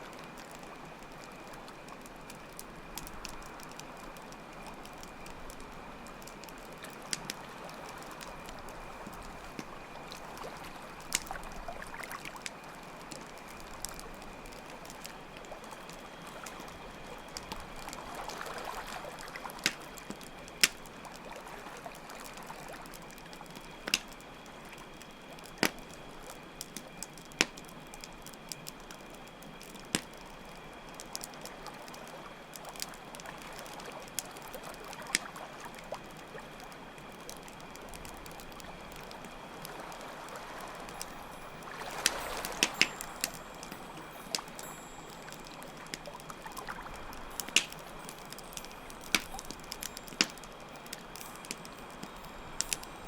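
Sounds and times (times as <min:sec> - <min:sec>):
campfire crackling: 0:00.0 - 0:53.0
running water trickling: 0:00.0 - 0:53.0
cricket trill: 0:00.4 - 0:53.0.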